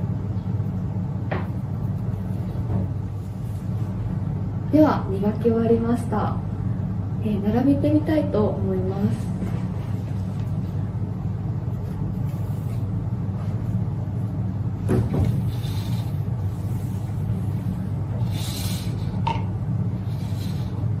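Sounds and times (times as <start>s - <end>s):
room hum: 0.0s - 21.0s.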